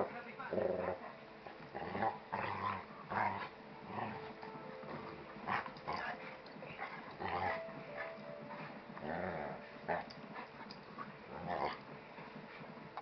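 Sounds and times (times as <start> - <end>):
dogs play growling: 0.0 - 13.0.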